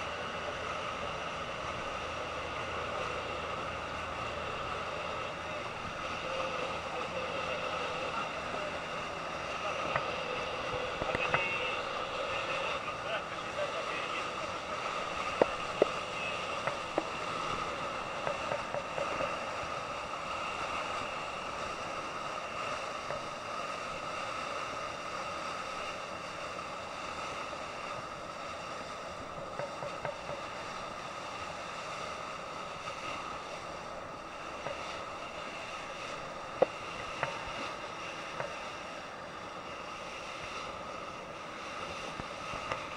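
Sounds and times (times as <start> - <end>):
boat engine running: 0.0 - 42.9
water and wind hiss: 0.0 - 42.9.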